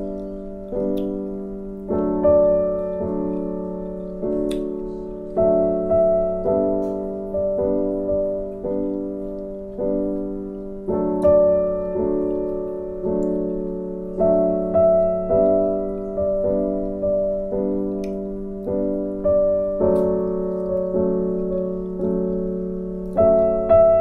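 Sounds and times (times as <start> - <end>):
slow solo piano: 0.0 - 24.0.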